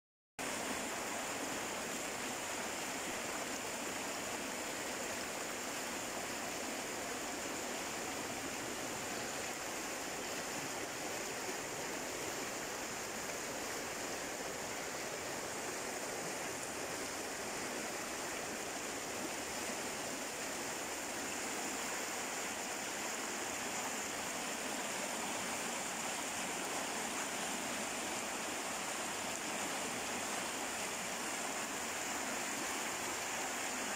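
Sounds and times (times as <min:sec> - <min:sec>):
river rushing white water: 0:00.4 - 0:33.9.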